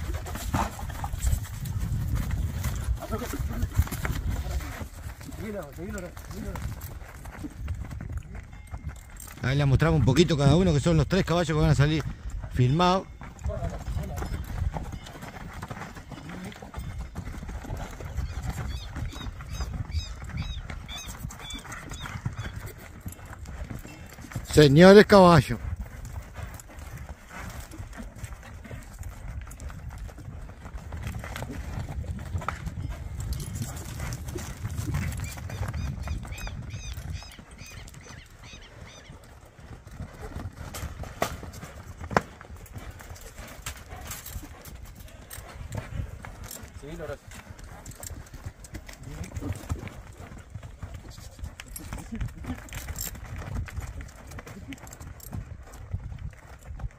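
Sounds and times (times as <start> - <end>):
hooves on soft dirt: 0.0 - 56.9.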